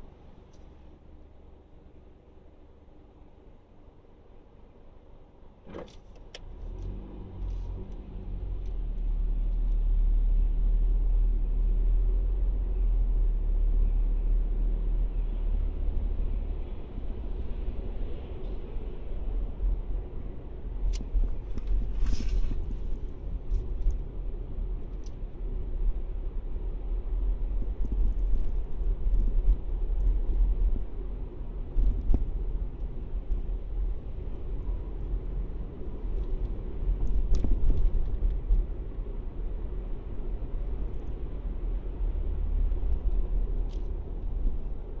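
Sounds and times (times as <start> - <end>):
road and engine rumble: 0.0 - 45.0.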